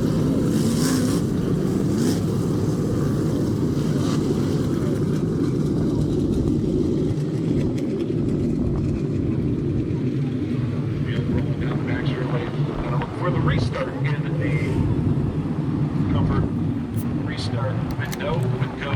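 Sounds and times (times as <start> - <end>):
race car engines droning: 0.0 - 18.9.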